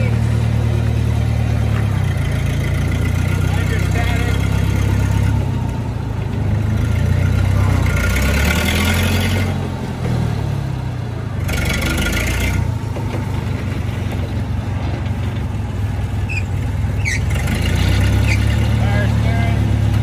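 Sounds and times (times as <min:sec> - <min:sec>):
forklift engine revving: 0:00.0 - 0:20.0.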